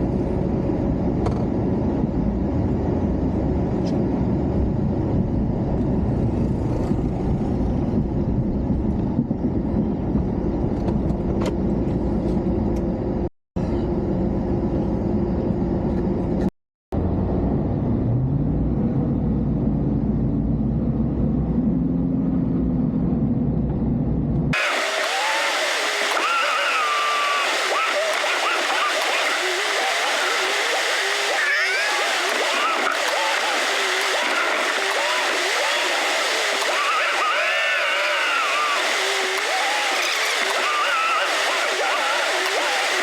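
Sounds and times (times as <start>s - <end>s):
engine running: 0.0s - 43.0s.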